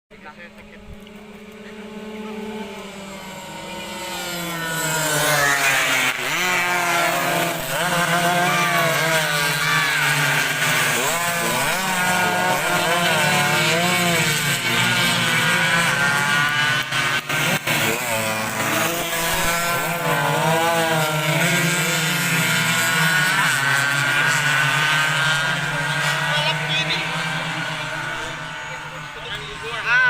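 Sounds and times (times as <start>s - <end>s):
racing motorcycle engines at full throttle: 0.1s - 30.0s.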